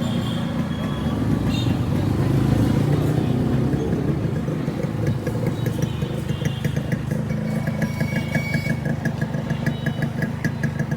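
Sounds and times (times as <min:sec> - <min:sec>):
two-stroke engine idling: 0:00.1 - 0:10.9.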